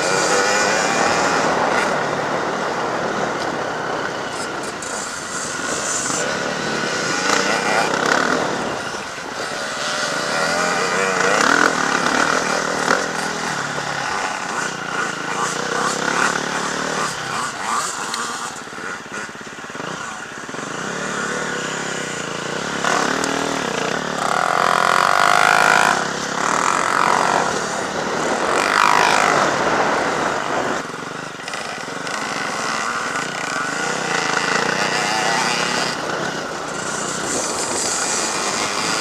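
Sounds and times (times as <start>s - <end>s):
motocross bikes revving past: 0.0s - 39.0s.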